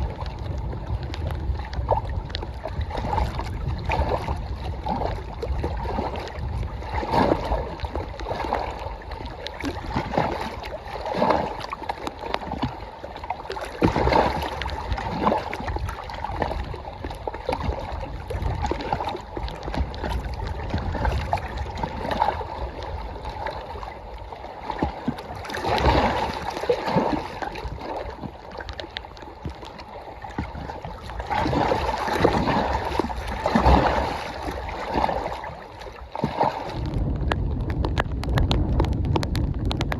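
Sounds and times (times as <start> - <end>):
wind buffeting microphone: 0.0 - 11.8, 13.4 - 24.2, 30.2 - 39.9
waves lapping against shore: 0.0 - 39.9.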